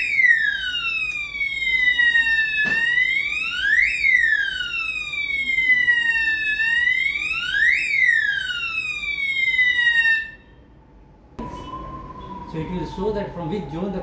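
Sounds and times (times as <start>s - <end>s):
fire alarm wailing: 0.0s - 10.7s, 11.4s - 14.0s.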